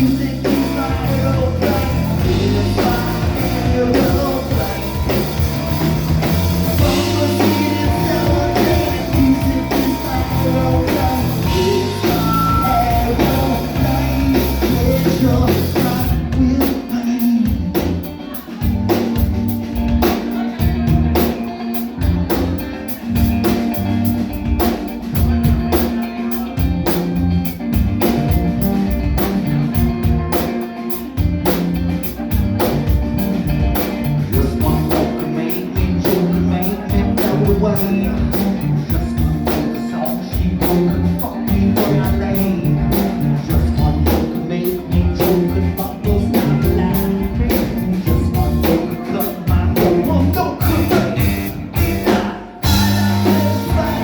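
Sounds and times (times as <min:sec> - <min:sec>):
person singing: 0:00.0 - 0:27.2, 0:28.0 - 0:54.0
drum kit: 0:00.0 - 0:54.0
electric bass: 0:00.0 - 0:54.0
electric guitar: 0:00.0 - 0:54.0.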